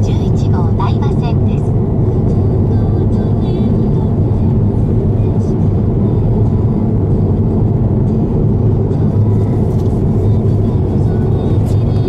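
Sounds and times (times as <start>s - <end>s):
car tyre and engine rumble: 0.0s - 12.0s.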